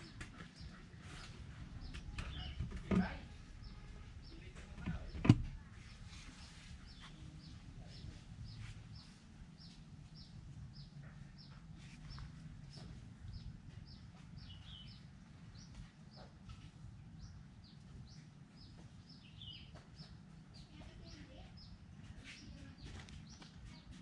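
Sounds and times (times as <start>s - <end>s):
low background rumble: 0.0s - 23.9s
birds chirping: 0.0s - 24.0s.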